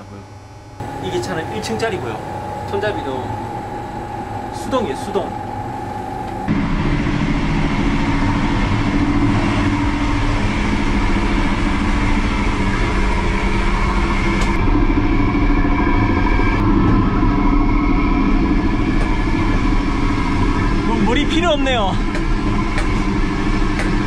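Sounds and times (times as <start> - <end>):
humming tones: 0.0 - 24.0
train rumble: 0.8 - 24.0.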